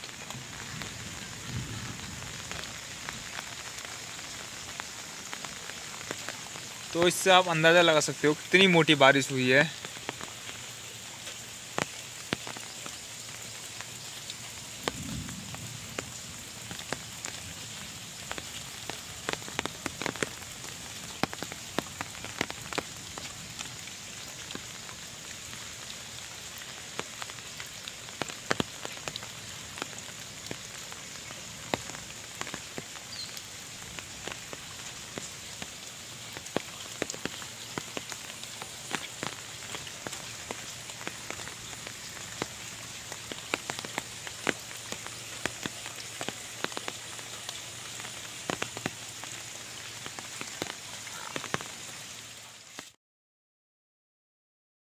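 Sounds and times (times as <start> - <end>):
light rain falling into puddles: 0.0 - 53.0.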